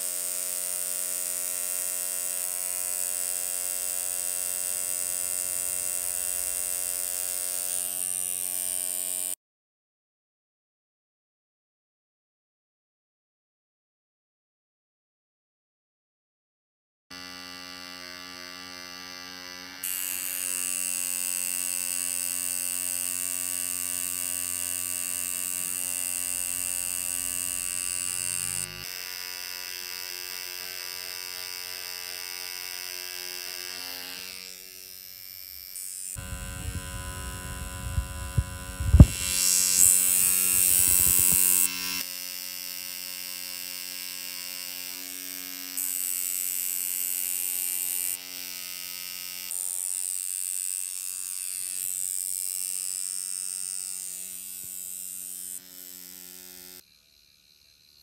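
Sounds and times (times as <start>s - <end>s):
tattoo machine humming: 0.0s - 9.4s, 17.1s - 58.0s.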